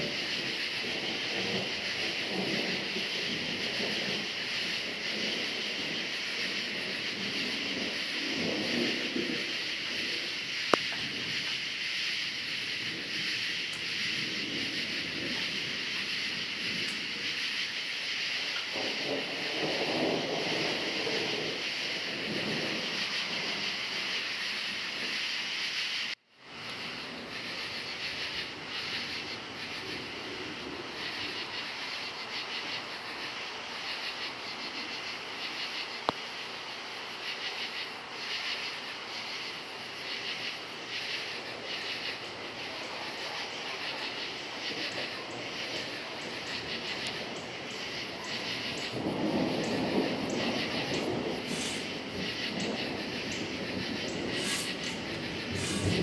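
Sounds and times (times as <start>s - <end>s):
distant thunder rumble: 0.0s - 25.3s, 26.6s - 36.1s, 38.4s - 56.0s
crickets chirring: 0.0s - 56.0s.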